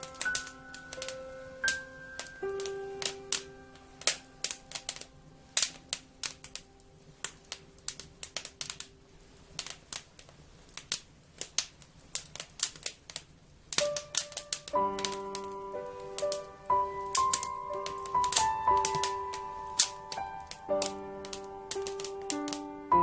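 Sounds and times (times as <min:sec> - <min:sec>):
soft held music notes: 0:00.0 - 0:23.0
wood fire crackling: 0:00.0 - 0:23.0.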